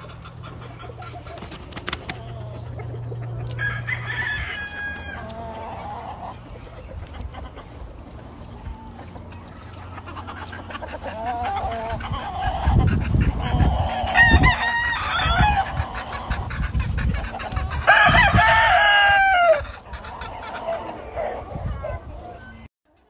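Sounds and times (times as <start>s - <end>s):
roosters crowing: 0.0s - 22.6s.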